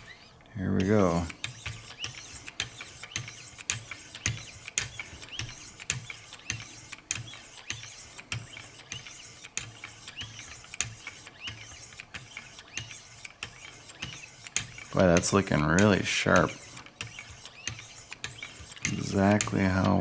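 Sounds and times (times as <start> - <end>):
stones scraping knife edge: 0.8 - 20.0.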